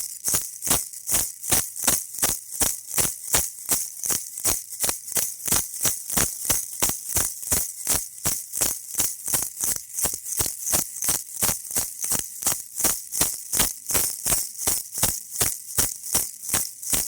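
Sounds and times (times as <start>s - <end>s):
baby rattle shaking: 0.0s - 17.0s.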